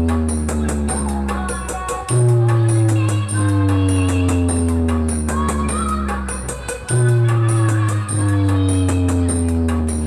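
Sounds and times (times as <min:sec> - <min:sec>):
heavy bass note: 0:00.0 - 0:10.0.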